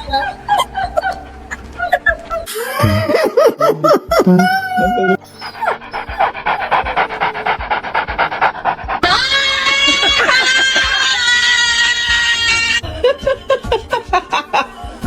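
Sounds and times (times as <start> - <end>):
dog panting: 0.0 - 12.8
music: 0.0 - 15.0.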